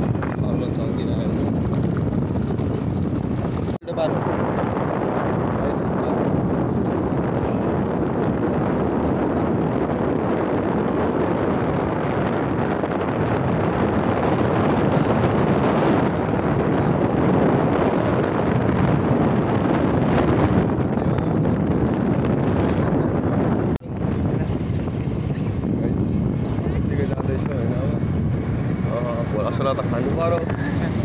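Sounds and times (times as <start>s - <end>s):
road and vehicle noise: 0.0s - 31.0s
wind on microphone: 0.0s - 31.0s.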